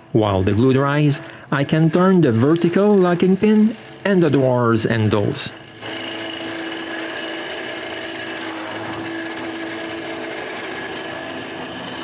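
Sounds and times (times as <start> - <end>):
tool cutting wood: 0.0 - 12.0
wood lathe motor hum: 0.0 - 12.0.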